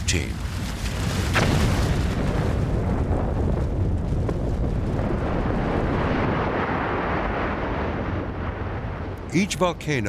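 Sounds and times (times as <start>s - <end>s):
volcanic eruption low roar: 0.1s - 9.8s.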